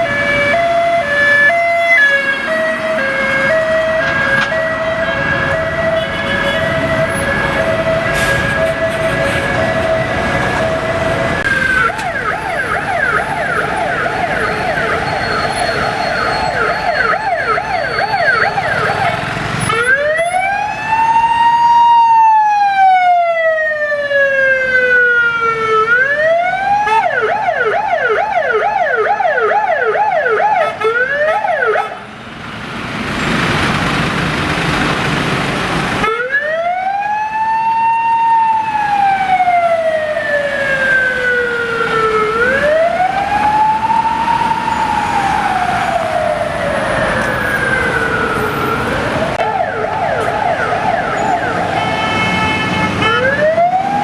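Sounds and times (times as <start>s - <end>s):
police siren yelp and wail: 0.0s - 32.1s, 36.0s - 54.0s
road noise: 0.0s - 54.0s.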